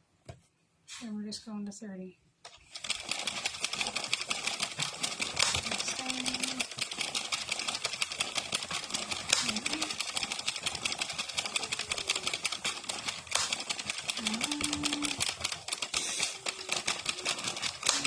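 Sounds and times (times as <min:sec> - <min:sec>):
knitting machine needles clicking: 0:02.5 - 0:18.0.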